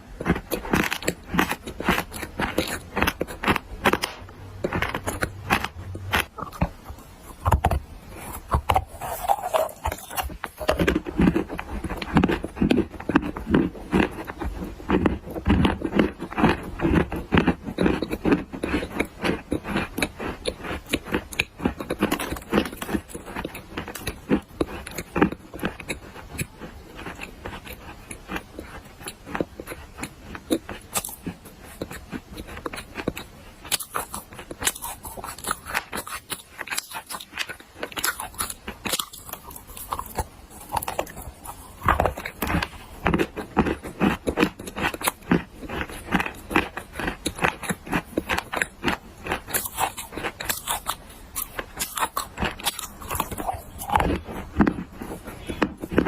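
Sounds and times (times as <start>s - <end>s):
person crunching clay: 0.0s - 56.0s.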